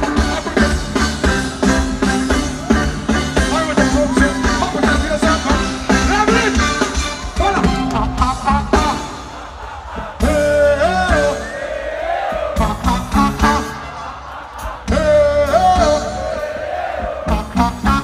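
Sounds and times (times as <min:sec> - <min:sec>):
reggae band playing: 0:00.0 - 0:18.0.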